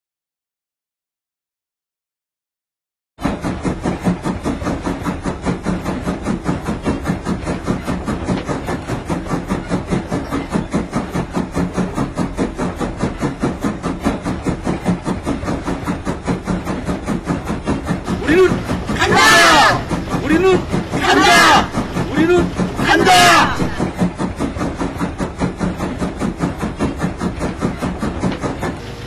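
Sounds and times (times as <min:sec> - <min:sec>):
train running: 0:03.2 - 0:29.0.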